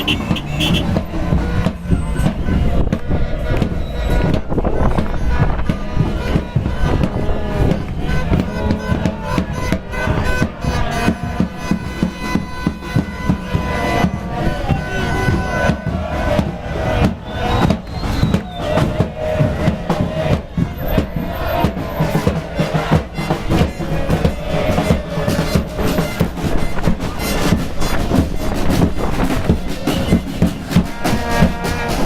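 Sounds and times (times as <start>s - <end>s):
crowd chanting and singing: 0.0s - 32.0s
held horn tones: 0.0s - 32.0s
steady drumbeats: 0.0s - 32.0s.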